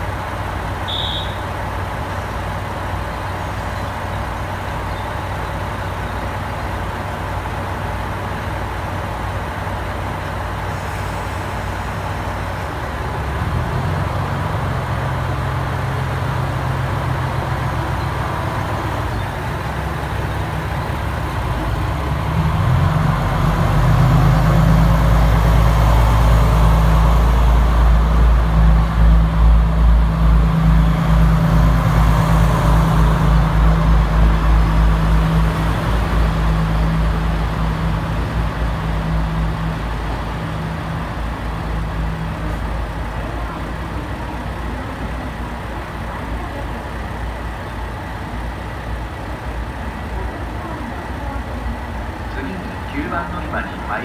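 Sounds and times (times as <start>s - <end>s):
train machine hum: 0.0s - 54.0s.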